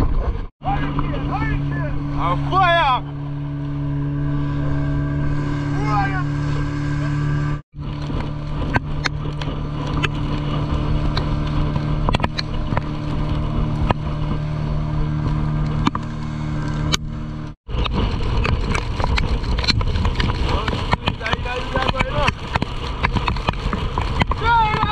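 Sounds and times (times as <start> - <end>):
wind: 0.0 - 24.9
outboard motor running: 0.3 - 24.9
rushing water: 0.6 - 24.9.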